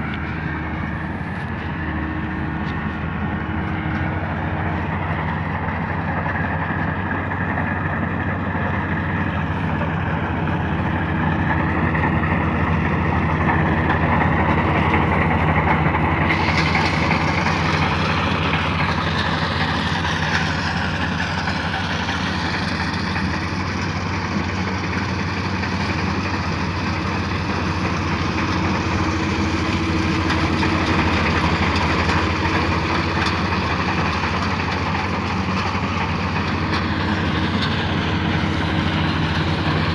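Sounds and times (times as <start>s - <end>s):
combine harvester running: 0.0s - 39.9s
high machinery whine: 0.0s - 39.9s.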